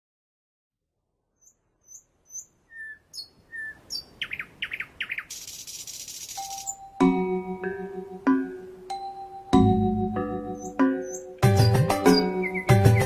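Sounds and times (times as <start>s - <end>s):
birds chirping: 1.4s - 13.0s.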